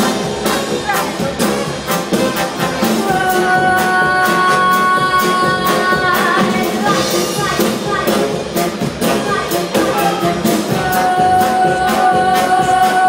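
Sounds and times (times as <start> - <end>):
big band playing: 0.0 - 13.0.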